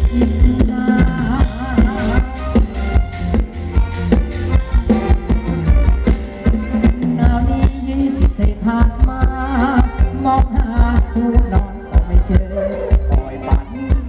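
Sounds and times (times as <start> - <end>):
heavy bass: 0.0 - 14.0
live folk dance band: 0.0 - 14.0
melody line: 0.0 - 14.0
steady drum beat: 0.0 - 14.0.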